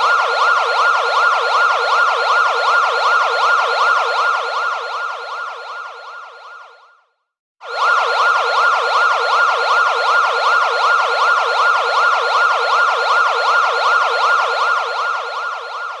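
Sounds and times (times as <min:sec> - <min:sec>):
electronic siren yelp: 0:00.0 - 0:16.0.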